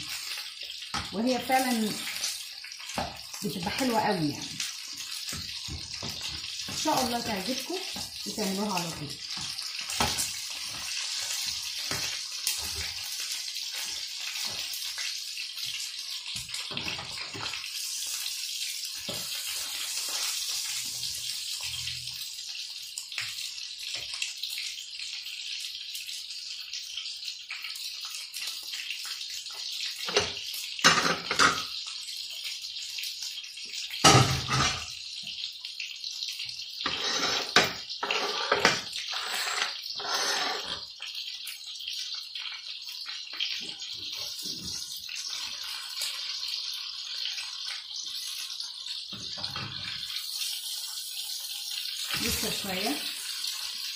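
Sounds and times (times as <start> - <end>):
meat sizzling in a grill pan: 0.0 - 53.9.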